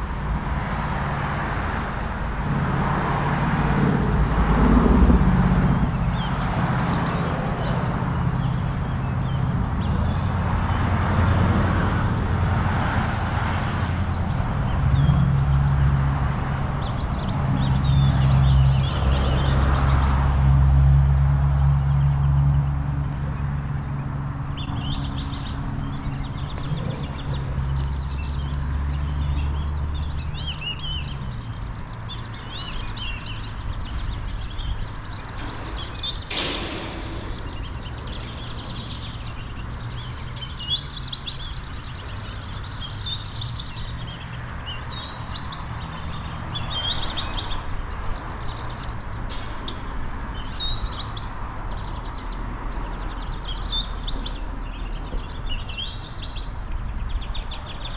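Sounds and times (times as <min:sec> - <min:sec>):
songbirds chirping and twittering: 0:00.0 - 0:57.9.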